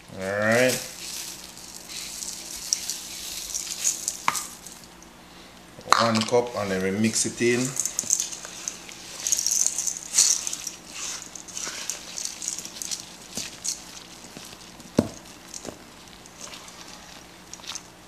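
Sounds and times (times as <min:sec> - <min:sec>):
spoon scraping crunchy cereal: 0:00.4 - 0:04.9, 0:06.1 - 0:18.0.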